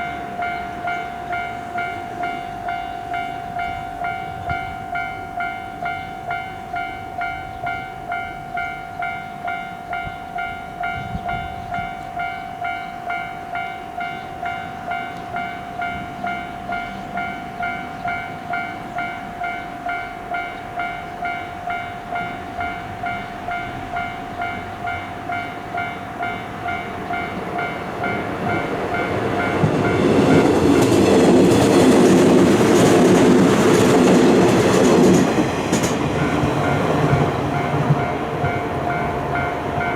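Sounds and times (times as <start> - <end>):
level crossing warning bell: 0.0 - 39.9
train wheels clattering on rails: 0.0 - 39.9.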